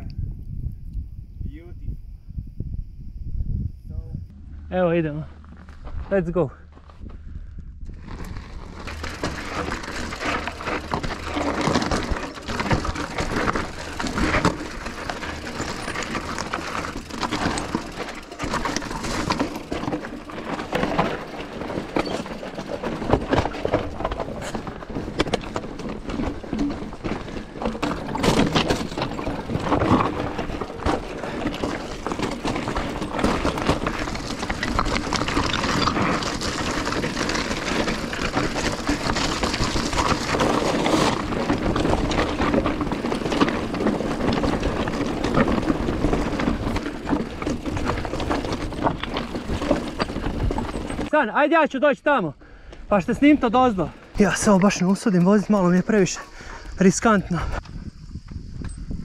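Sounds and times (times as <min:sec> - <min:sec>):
bike rattling: 0:04.3 - 0:59.0
bike tyres grinding over rock: 0:04.3 - 0:59.0.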